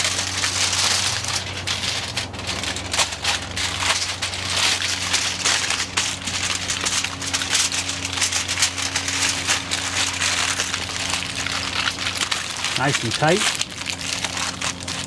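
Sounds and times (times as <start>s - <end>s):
low steady hum: 0.0s - 15.0s
wrapping material crinkling: 0.0s - 15.0s.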